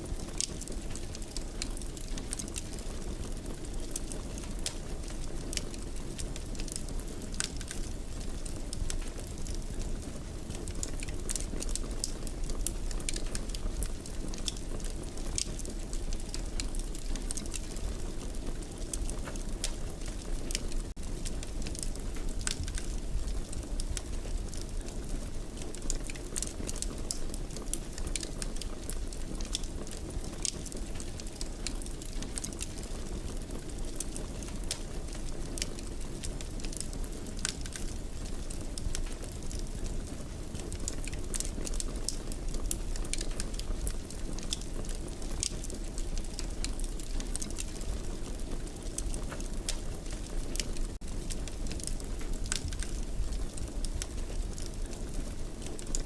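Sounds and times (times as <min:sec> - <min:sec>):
fire crackles and pops: 0:00.0 - 0:56.0
fire low rumble: 0:00.0 - 0:56.0.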